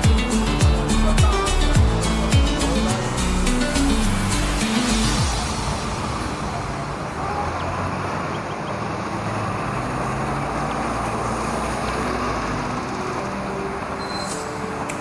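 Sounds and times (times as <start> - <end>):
city street traffic: 0.0 - 15.0
vehicle engine rumble: 0.0 - 15.0.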